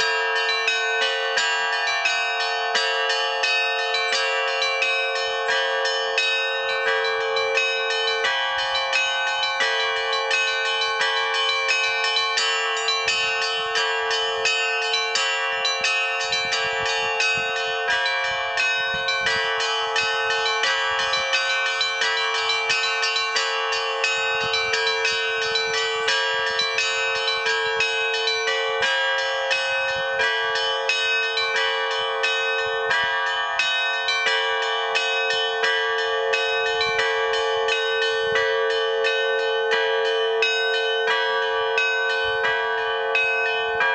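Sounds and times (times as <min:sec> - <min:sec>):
low sustained bell ringing: 0:00.0 - 0:43.9
small church bells striking rapidly: 0:00.0 - 0:43.9.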